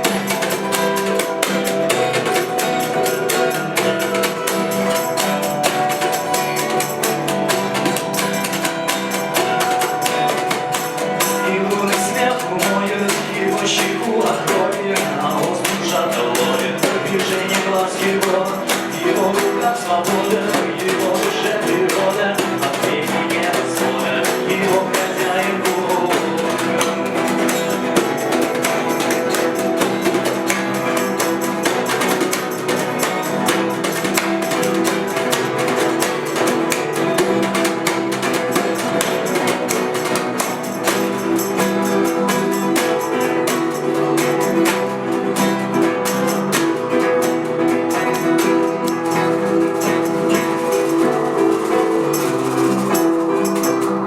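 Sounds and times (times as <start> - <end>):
acoustic guitars strumming: 0.0 - 54.0
hand percussion: 0.0 - 54.0.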